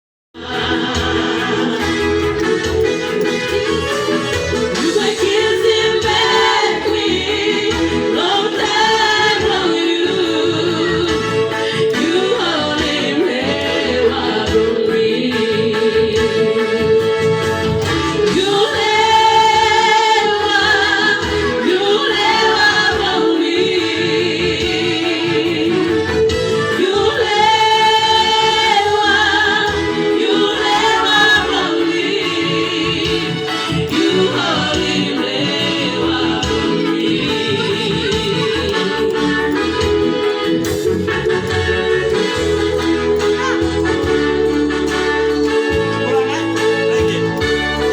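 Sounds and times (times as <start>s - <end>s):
musical backing: 0.4s - 47.9s
person singing with vibrato: 0.4s - 47.9s.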